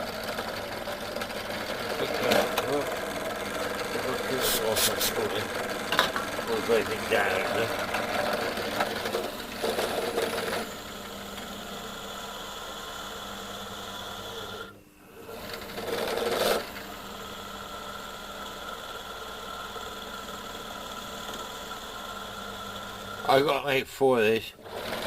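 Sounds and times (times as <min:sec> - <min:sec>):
pillar drill motor hum: 0:00.0 - 0:25.0.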